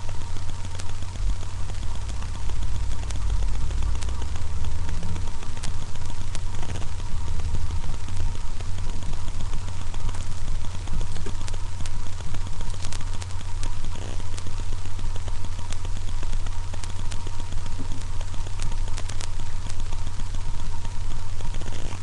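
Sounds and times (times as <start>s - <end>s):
faint clicks: 0.0s - 22.0s
low electrical hum: 0.0s - 22.0s.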